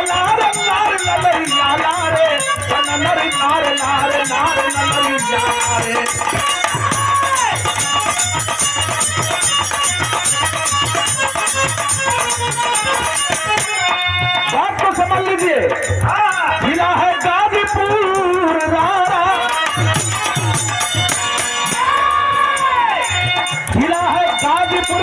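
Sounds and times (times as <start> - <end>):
jingling rattling percussion: 0.0 - 25.0
steady drum rhythm: 0.0 - 25.0.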